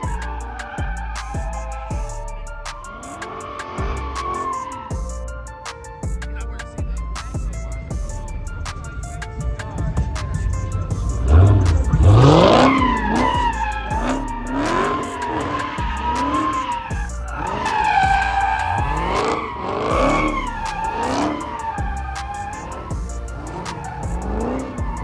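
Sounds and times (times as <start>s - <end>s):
car engine revving: 0.0s - 25.0s
tires squealing: 0.0s - 25.0s.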